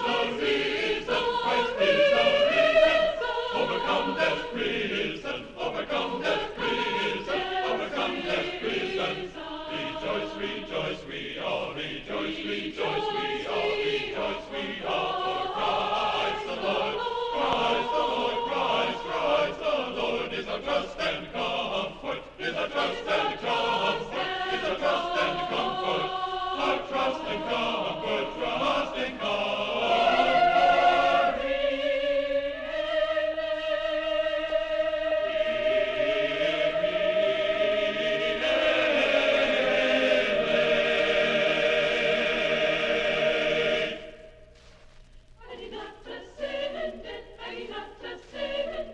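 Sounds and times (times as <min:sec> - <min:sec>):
choir singing: 0:00.0 - 0:44.4, 0:45.4 - 0:48.9.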